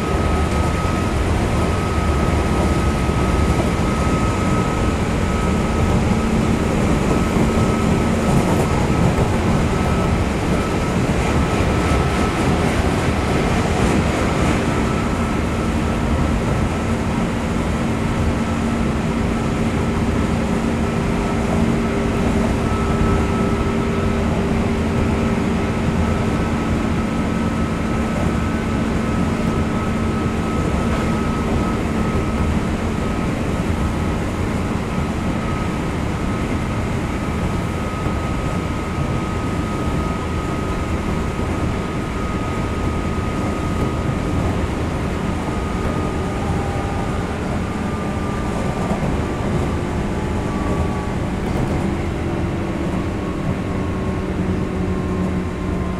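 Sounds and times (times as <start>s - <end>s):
train wheel and rail rumble: 0.0s - 55.9s.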